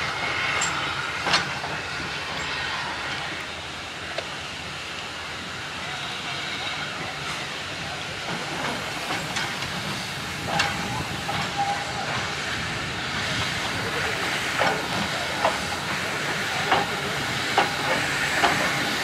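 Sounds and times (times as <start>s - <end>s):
hiss of escaping steam: 0.0s - 19.0s.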